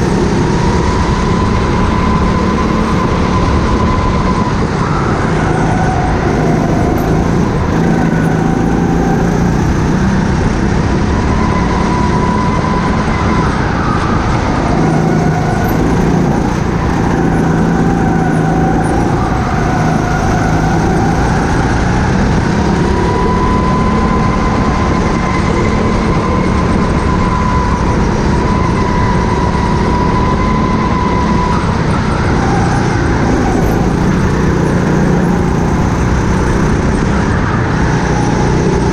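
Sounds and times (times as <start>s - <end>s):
go-kart motor running hard: 0.0s - 38.9s.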